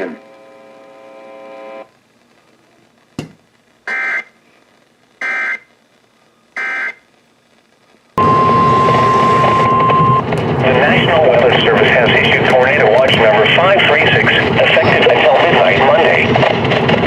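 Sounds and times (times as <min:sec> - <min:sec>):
loud static: 0:00.0 - 0:17.0.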